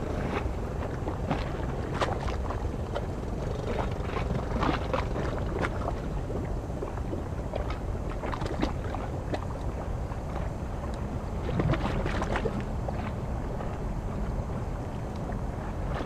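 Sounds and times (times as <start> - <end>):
small waves lapping: 0.0 - 16.0
wind rumbling on microphone: 0.0 - 16.0.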